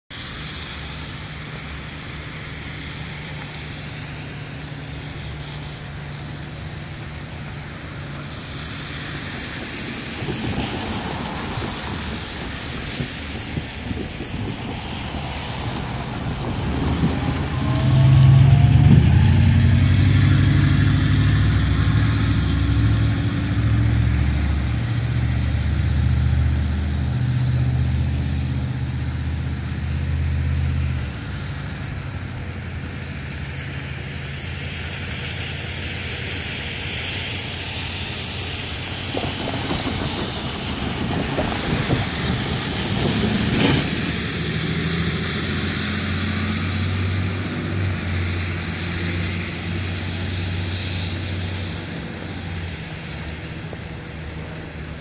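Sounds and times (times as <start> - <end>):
rain hiss: 0.1 - 55.0
vehicle engines rumbling: 0.1 - 55.0.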